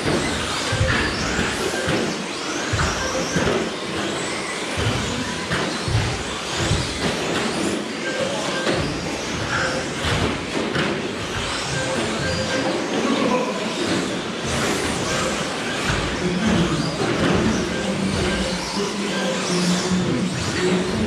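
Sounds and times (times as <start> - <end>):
electric toy car motors whining: 0.0 - 13.0, 13.7 - 21.0
knocks and clatters of collisions: 0.0 - 13.1, 13.7 - 21.0.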